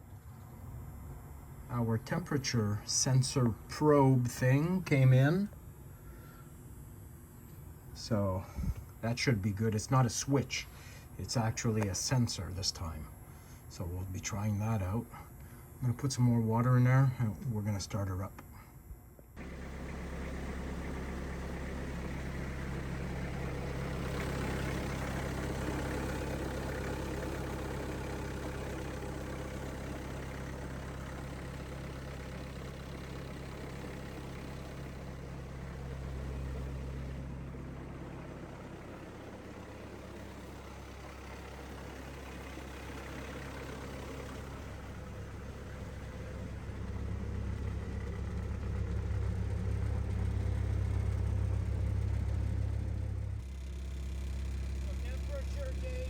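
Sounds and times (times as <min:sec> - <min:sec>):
diesel engine idling: 0:00.0 - 0:18.6, 0:19.4 - 0:56.0.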